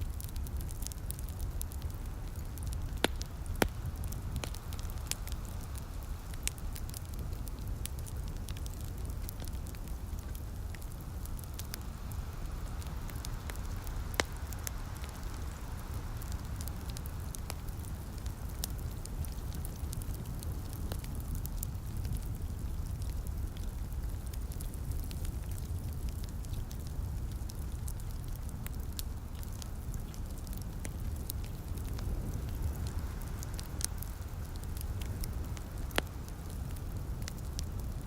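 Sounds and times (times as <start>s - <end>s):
light rain hiss: 0.0s - 38.0s
wood fire crackling and popping: 0.0s - 38.0s.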